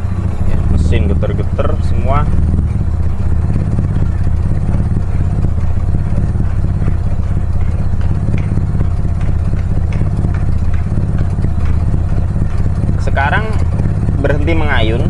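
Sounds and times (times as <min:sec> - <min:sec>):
engine idling rough: 0:00.0 - 0:15.0.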